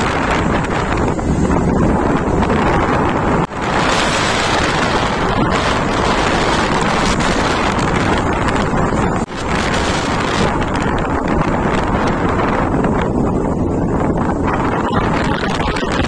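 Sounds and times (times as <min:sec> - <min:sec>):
vehicle noise: 0:00.0 - 0:16.0
wind buffeting microphone: 0:00.0 - 0:16.0.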